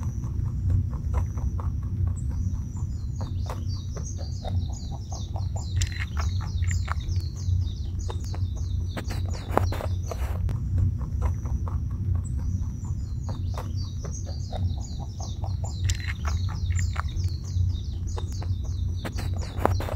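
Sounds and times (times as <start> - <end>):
birds chirping: 0.0 - 19.9
steady low rumble: 0.0 - 19.9.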